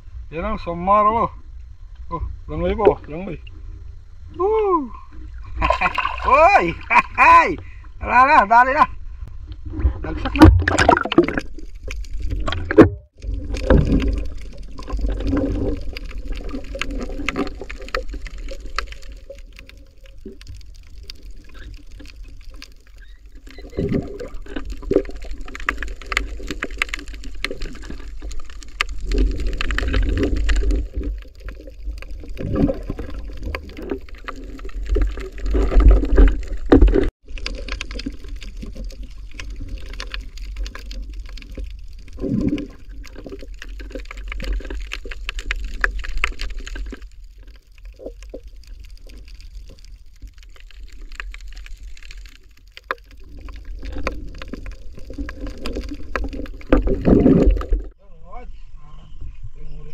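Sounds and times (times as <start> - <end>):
water rushing underwater: 5.0 - 7.8, 9.1 - 58.0.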